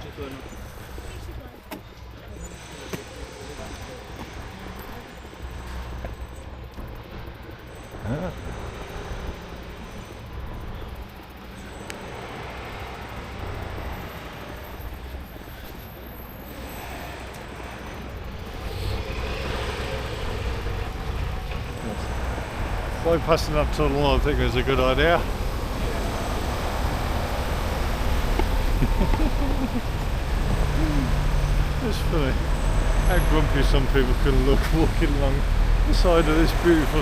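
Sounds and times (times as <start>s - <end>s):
tyre and road rumble: 0.0s - 37.0s.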